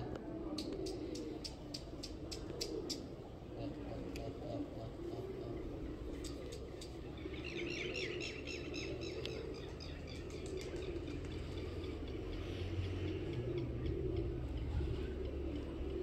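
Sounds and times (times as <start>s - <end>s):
small birds chirping: 0.6s - 15.8s.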